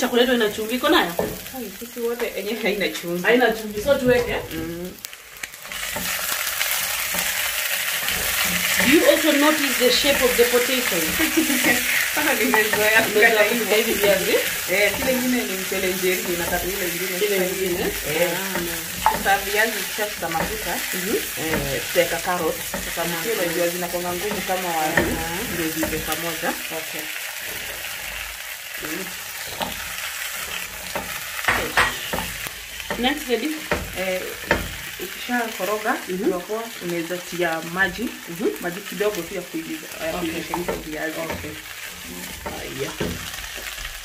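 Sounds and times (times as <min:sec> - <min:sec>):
spatula scraping pot: 0:00.0 - 0:35.8, 0:37.6 - 0:43.8
food sizzling in oil: 0:00.0 - 0:44.0.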